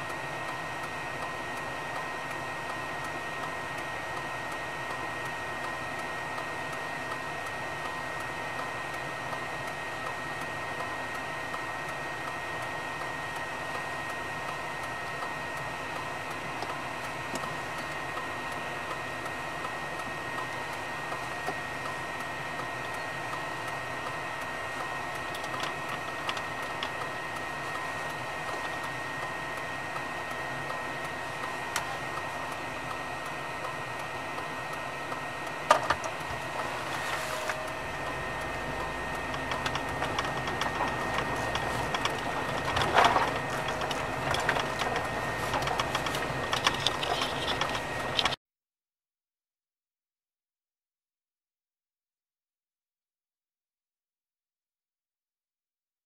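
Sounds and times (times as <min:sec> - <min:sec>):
mechanical hum with high whine: 0:00.0 - 0:48.4.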